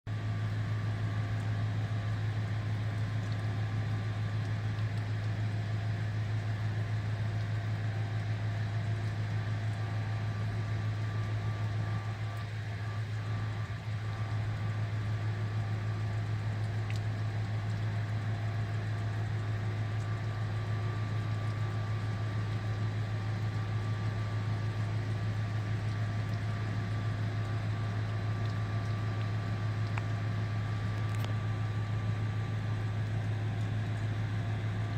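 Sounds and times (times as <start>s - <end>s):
low mechanical hum: 0.1s - 34.9s.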